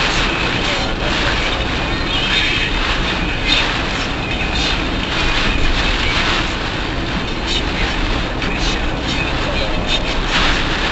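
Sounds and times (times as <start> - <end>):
car road noise on wet road: 0.0 - 10.9
rain: 0.0 - 10.9.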